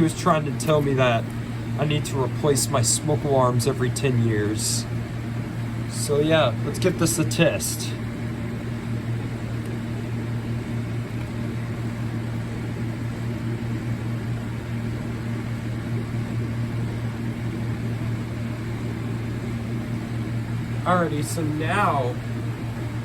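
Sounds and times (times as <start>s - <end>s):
low mechanical hum with hiss: 0.0s - 23.0s.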